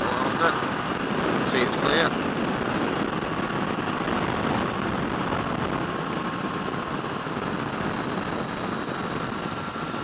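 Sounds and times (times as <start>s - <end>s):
motorcycle engine cruising: 0.0s - 10.0s
wind buffeting microphone: 0.0s - 10.0s.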